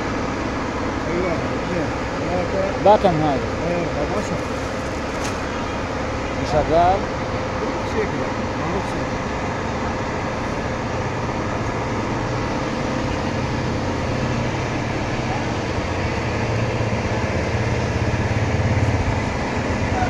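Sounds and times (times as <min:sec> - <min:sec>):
street market low rumble: 0:00.0 - 0:20.0.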